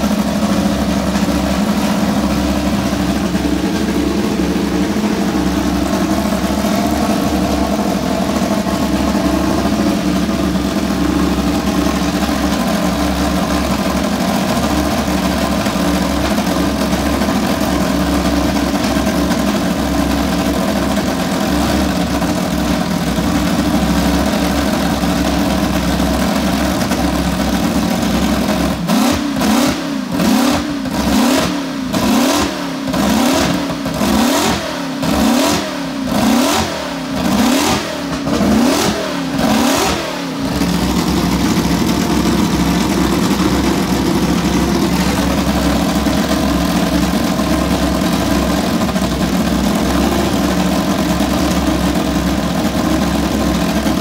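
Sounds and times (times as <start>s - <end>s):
racing engine fast idle: 0.0s - 54.0s.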